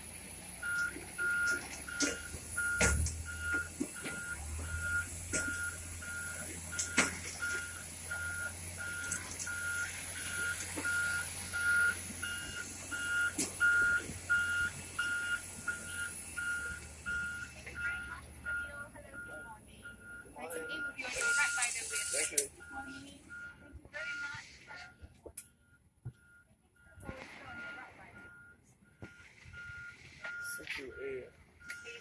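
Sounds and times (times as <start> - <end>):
back-up alarm beeping: 0.6 - 32.0.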